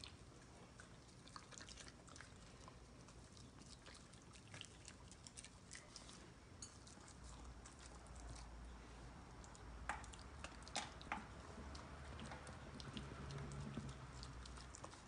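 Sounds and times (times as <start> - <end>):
chewing with wet mouth clicks: 0.0 - 15.0.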